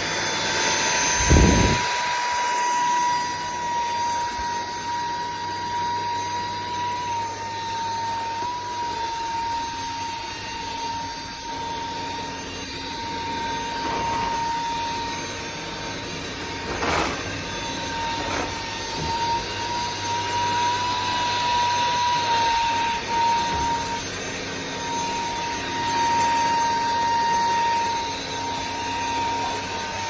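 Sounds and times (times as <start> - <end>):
stick vacuum running: 0.0 - 30.0.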